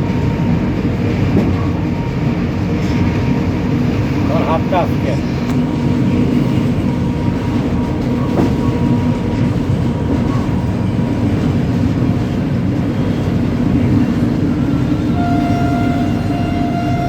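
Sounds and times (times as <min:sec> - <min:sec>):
train rumbling in motion: 0:00.0 - 0:17.0.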